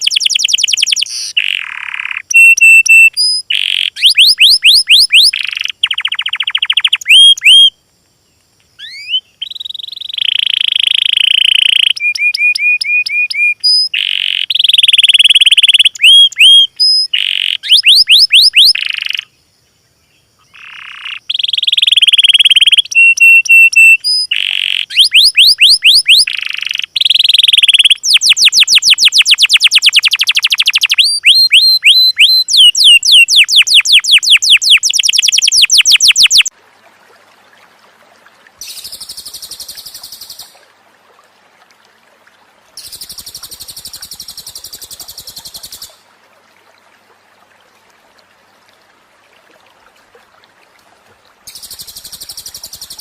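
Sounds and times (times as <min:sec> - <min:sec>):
songbird singing: 0:00.0 - 0:36.6, 0:38.6 - 0:40.6, 0:42.7 - 0:46.1, 0:51.5 - 0:53.0.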